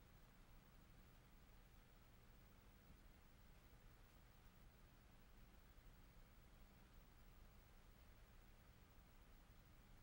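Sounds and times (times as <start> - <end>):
faint hiss with low hum: 0.0 - 10.0.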